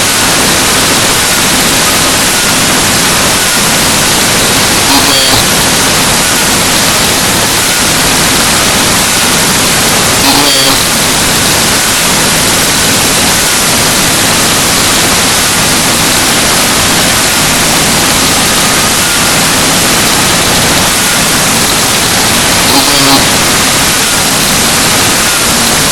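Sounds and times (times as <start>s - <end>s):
loud static hiss: 0.0s - 25.9s.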